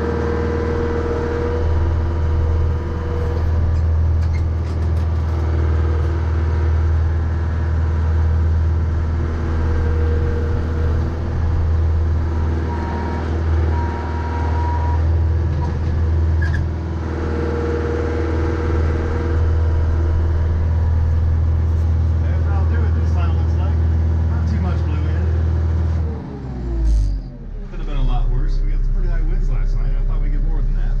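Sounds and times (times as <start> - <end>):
tractor engine humming: 0.0 - 25.7.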